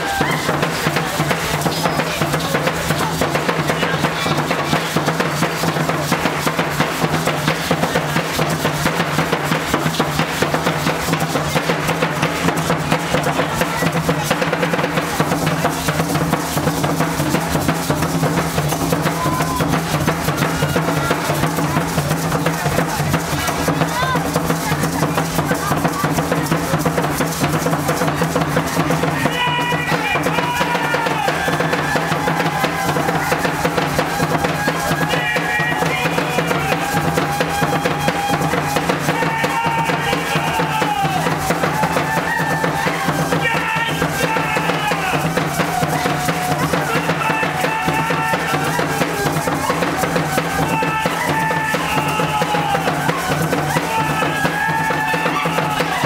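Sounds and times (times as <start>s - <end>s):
rapid drumming: 0.0s - 56.0s
seed-pod ankle rattles shaking: 0.1s - 56.0s.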